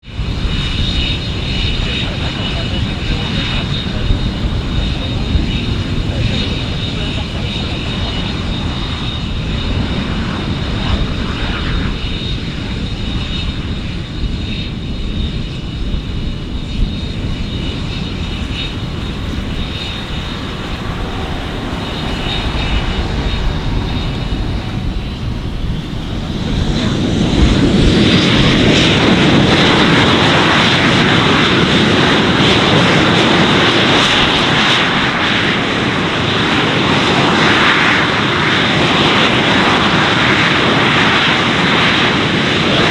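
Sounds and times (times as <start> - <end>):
jet engines rumbling with whine: 0.0 - 42.9.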